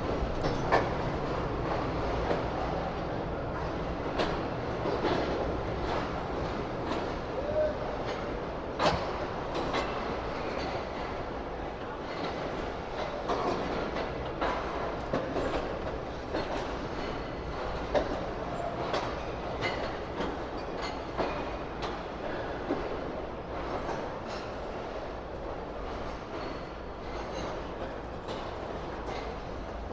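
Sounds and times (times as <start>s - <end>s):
train rumbling on rails: 0.0s - 29.9s
wheels clunking over rail joints: 0.0s - 29.9s.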